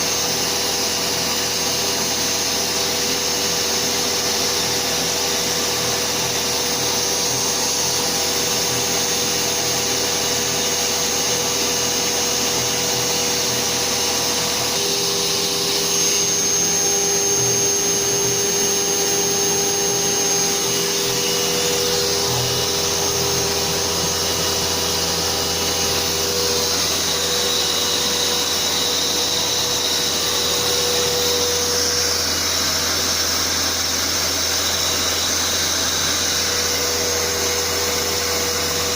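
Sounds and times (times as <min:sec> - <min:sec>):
dust extraction vacuum: 0:00.0 - 0:38.9
router spindle engraving: 0:00.0 - 0:38.9.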